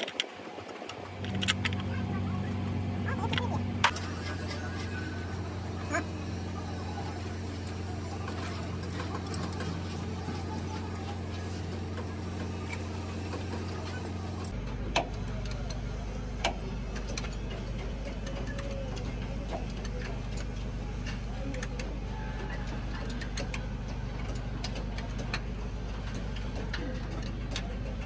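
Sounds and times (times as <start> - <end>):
machine motor humming: 1.0 - 28.0.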